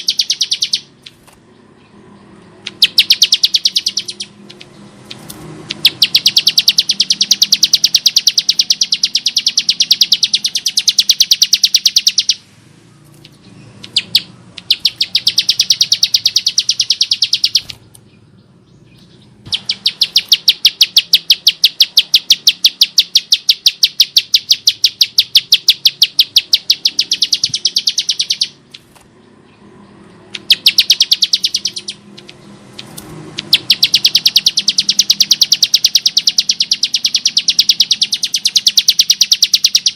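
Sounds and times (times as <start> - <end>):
bird calling with clicking notes: 0.0 - 1.4, 2.3 - 12.4, 13.0 - 18.2, 18.9 - 29.1, 30.1 - 39.9.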